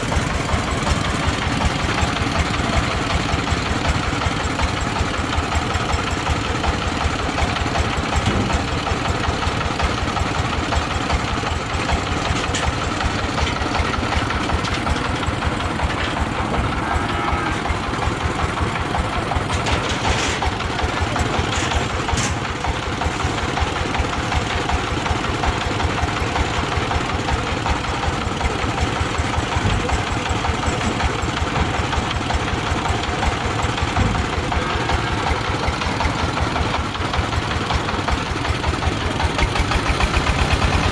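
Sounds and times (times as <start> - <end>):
rushing noise of threshing works: 0.0 - 40.9
threshing machine engine beating: 0.0 - 40.9.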